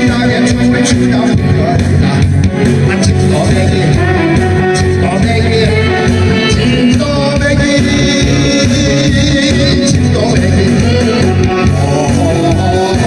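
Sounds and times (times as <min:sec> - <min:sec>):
backing music with steady beat: 0:00.0 - 0:13.0
man singing into a microphone: 0:00.0 - 0:13.0.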